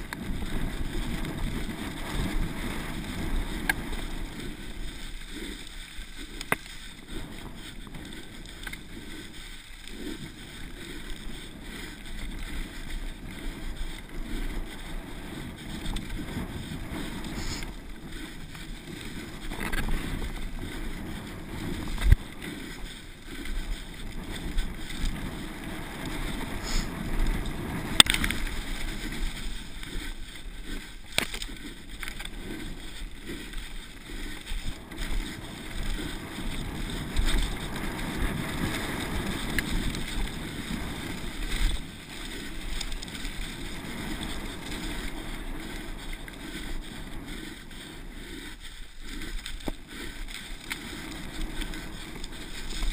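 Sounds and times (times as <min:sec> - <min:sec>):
mountain bike rolling over dirt: 0:00.0 - 0:52.9
wind noise on microphone: 0:00.0 - 0:52.9.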